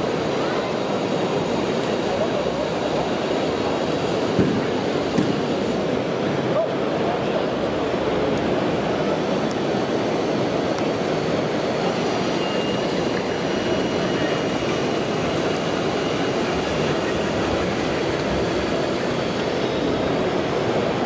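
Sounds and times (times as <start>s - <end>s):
faint high whine: 0.0s - 21.0s
model construction machines running: 0.0s - 21.0s.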